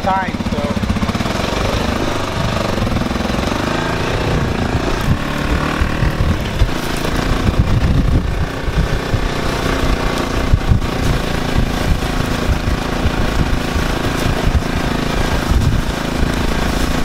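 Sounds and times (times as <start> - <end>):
atv engine running: 0.0 - 17.0
irregular low thumps: 0.0 - 17.0.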